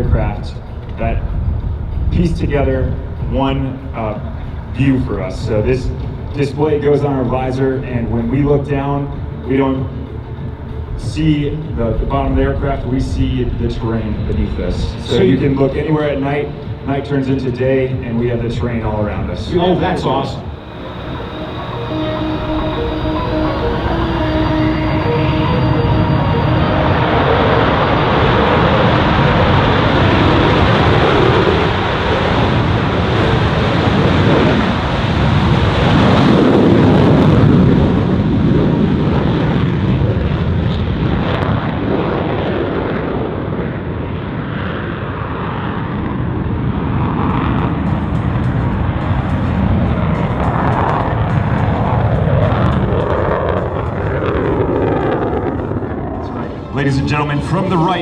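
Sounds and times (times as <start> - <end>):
fighter jet flying: 0.0 - 58.0.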